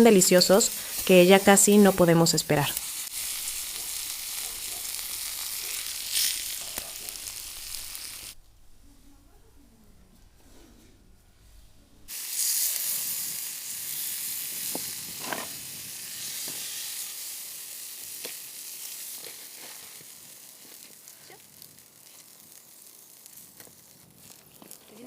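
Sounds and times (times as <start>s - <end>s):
meat sizzling on a grill: 0.0s - 8.4s, 12.1s - 25.0s.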